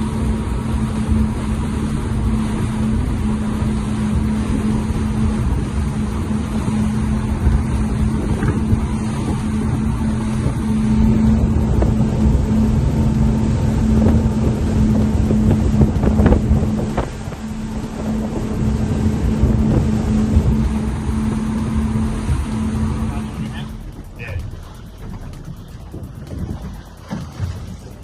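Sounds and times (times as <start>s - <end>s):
outboard boat engines droning: 0.0s - 28.0s
wind buffeting microphone: 0.0s - 28.0s.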